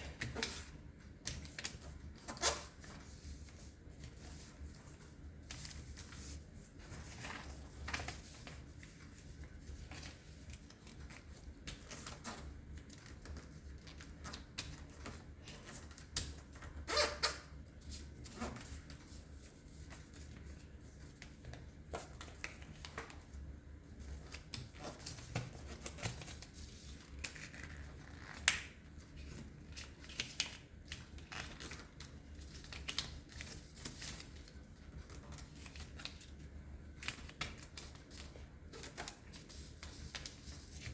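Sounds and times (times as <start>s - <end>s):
paper rustling and crinkling: 0.2s - 16.6s, 24.0s - 40.9s.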